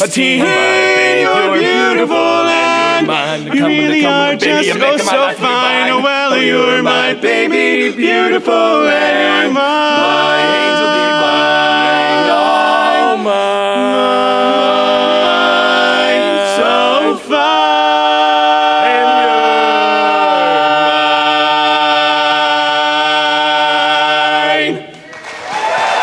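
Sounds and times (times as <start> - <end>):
male quartet singing a cappella: 0.0 - 24.9.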